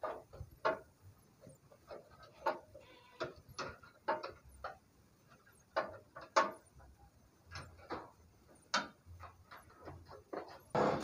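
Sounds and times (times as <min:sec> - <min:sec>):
hand tools clicking and knocking: 0:00.0 - 0:11.0.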